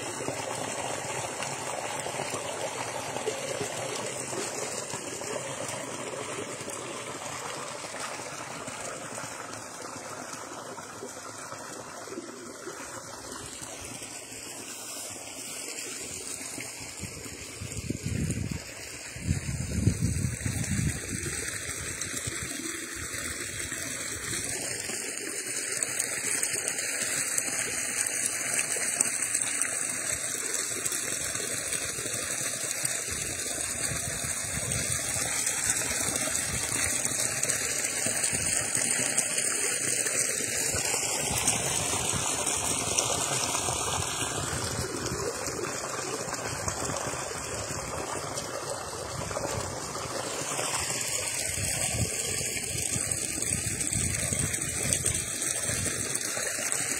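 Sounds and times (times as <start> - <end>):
stream water trickling and pouring: 0.0 - 56.9.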